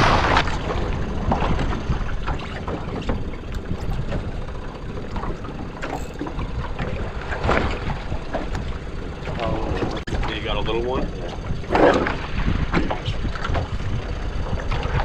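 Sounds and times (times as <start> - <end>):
water slapping metal boat: 0.0 - 15.0
wind rumbling on microphone: 0.0 - 15.0.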